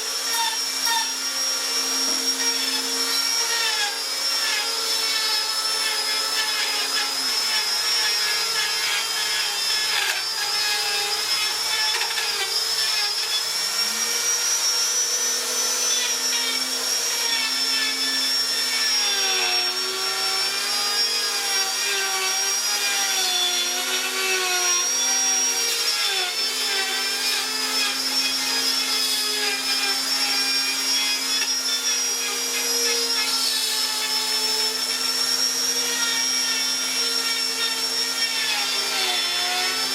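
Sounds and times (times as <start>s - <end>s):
power tool motor on wood: 0.0s - 39.9s.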